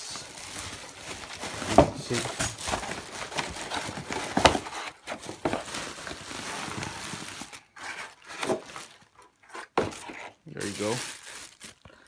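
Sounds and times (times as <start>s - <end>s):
crinkling packaging being pulled: 0.0s - 12.0s.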